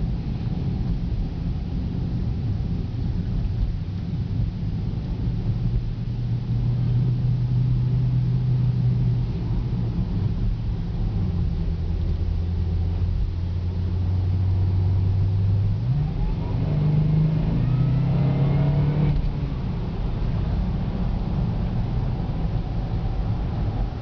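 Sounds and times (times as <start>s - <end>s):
road noise inside car: 0.0s - 24.0s
car engine accelerating: 3.0s - 24.0s.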